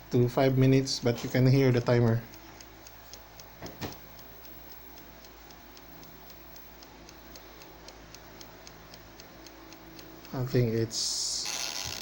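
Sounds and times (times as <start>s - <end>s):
mechanical timer ticking: 0.0s - 12.0s.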